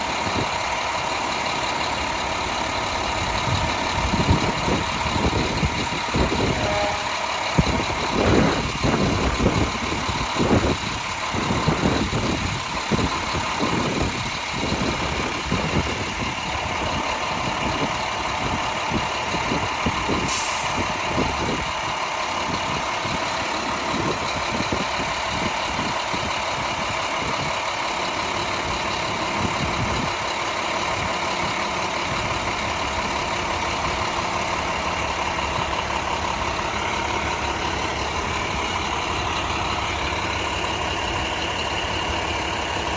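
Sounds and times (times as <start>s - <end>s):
diesel engines running: 0.0s - 42.9s.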